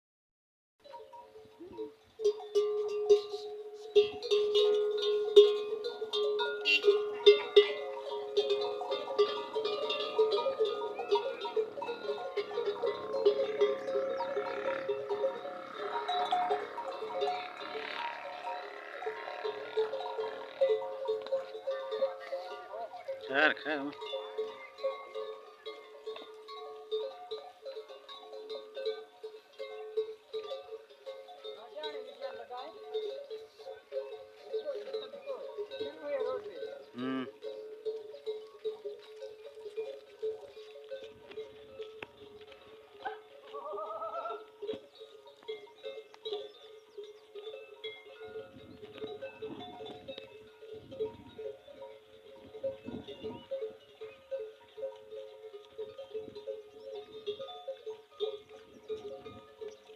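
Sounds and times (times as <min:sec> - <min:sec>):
camel bells clanking: 0:00.8 - 0:59.9.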